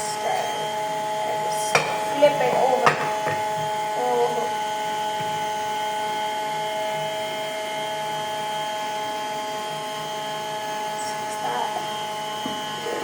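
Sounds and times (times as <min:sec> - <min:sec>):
kitchen appliance motor hum: 0:00.0 - 0:13.0.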